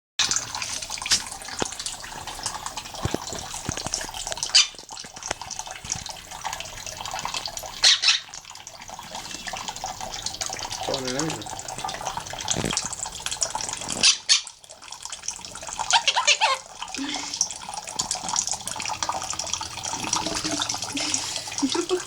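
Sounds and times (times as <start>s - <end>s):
parrot splashing in water: 0.2s - 22.0s
water running from tap: 0.2s - 22.0s.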